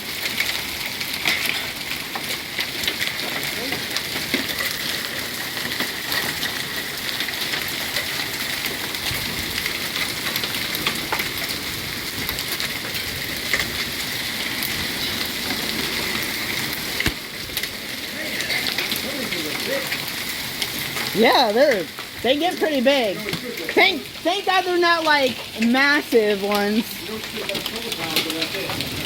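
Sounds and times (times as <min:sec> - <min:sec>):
hail pelting down: 0:00.0 - 0:29.0
hailstones cracking: 0:00.0 - 0:29.0.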